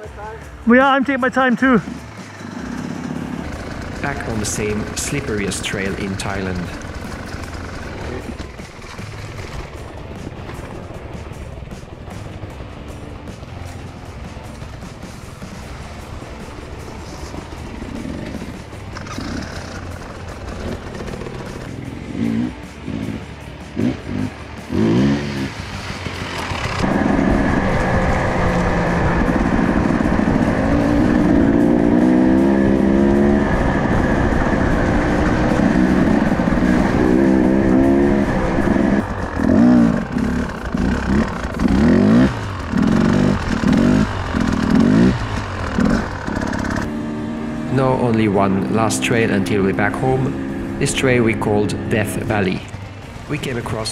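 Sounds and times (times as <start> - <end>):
dirt bike engine revving: 1.6 - 10.7, 13.5 - 53.9.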